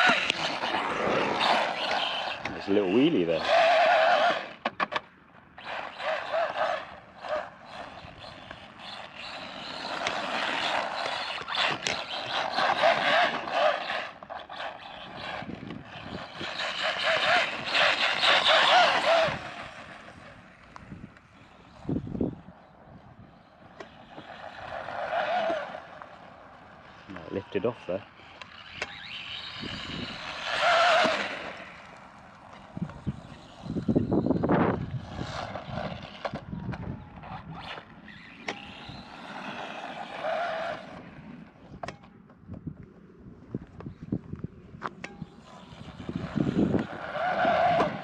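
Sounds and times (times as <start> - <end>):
tyres running over dirt: 0.0 - 22.4, 23.4 - 42.4
rc truck motor whining: 0.0 - 42.0, 44.8 - 48.0.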